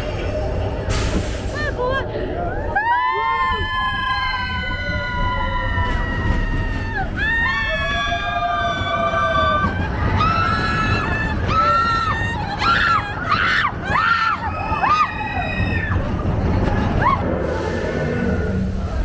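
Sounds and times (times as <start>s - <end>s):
roller coaster train rumbling: 0.0s - 19.0s.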